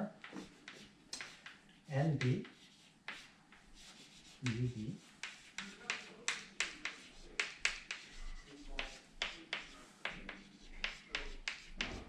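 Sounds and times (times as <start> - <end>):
chalk tapping and scratching on chalkboard: 0.1 - 12.0.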